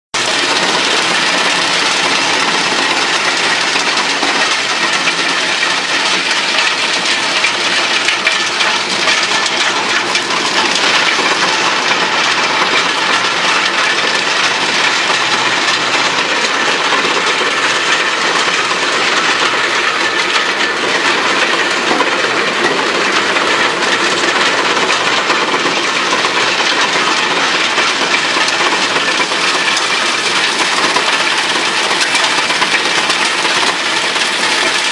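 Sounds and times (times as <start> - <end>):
wood chipper chipping branches: 0.2 - 34.9.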